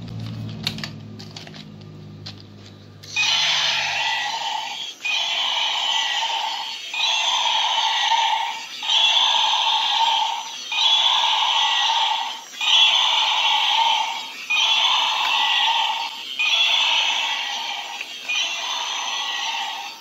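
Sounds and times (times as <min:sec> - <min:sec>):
electronic dinosaur toy call: 0:03.1 - 0:20.0.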